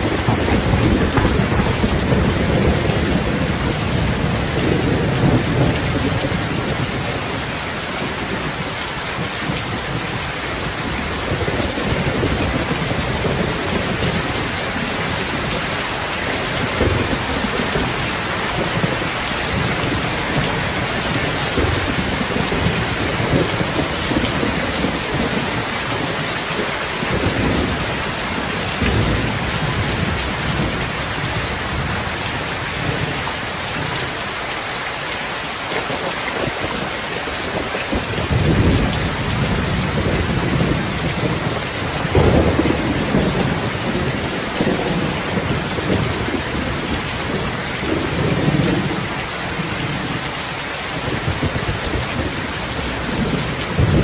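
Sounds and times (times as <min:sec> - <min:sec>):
thunder rumbling: 0:00.0 - 0:34.4, 0:35.7 - 0:54.0
heavy rain falling: 0:00.0 - 0:54.0.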